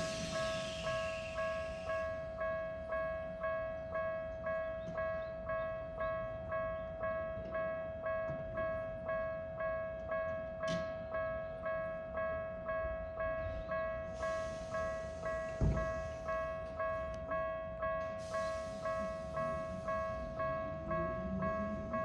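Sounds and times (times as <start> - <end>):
level crossing warning bell: 0.0 - 22.0.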